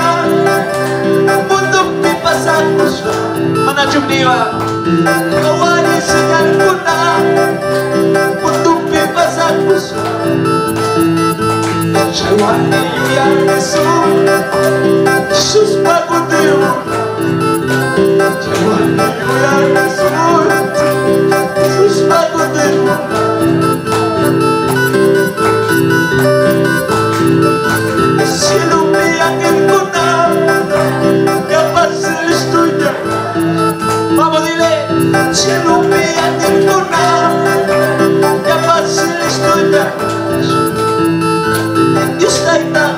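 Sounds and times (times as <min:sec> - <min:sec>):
man singing into a microphone: 0:00.0 - 0:10.8, 0:11.9 - 0:24.8, 0:28.0 - 0:40.9, 0:41.8 - 0:42.9
electronic keyboard accompaniment: 0:00.0 - 0:42.9.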